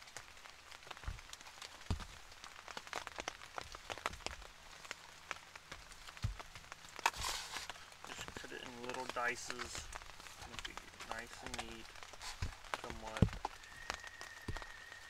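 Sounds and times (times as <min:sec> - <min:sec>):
rain on tent fabric: 0:00.0 - 0:15.0.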